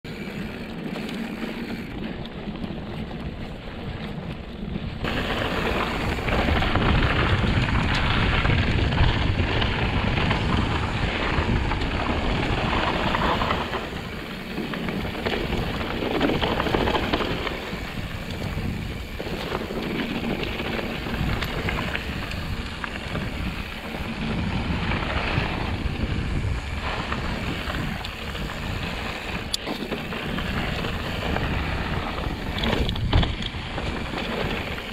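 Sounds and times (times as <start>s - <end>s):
mountain bike rattling on dirt: 0.1s - 34.9s
wind buffeting microphone: 0.1s - 34.9s.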